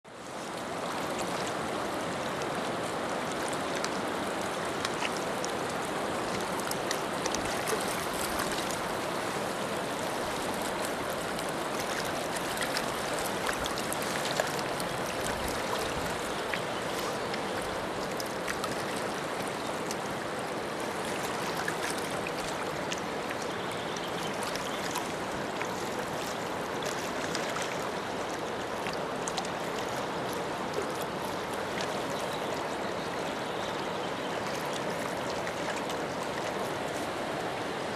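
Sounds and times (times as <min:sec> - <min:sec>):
water rushing over rocks: 0:00.1 - 0:37.9.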